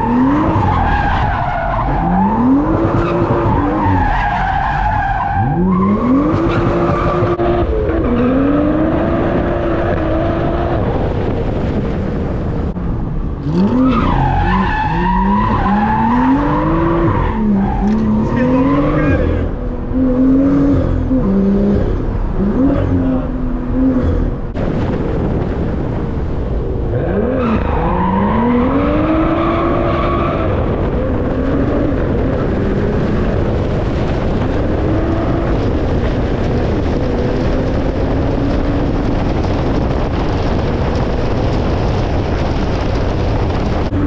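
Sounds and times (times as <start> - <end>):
car engine accelerating: 0.0 - 25.4, 26.1 - 44.0
road and tyre noise: 0.0 - 44.0.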